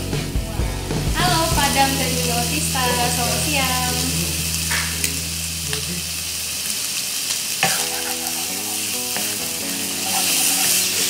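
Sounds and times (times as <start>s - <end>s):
chicken sizzling in a wok: 1.2s - 11.0s.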